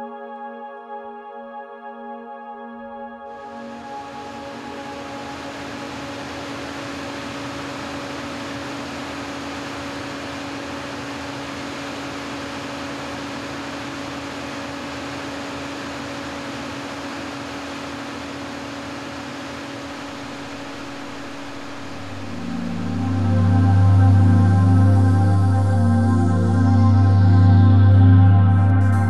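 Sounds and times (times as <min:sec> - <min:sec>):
machinery hum: 0:03.3 - 0:29.0.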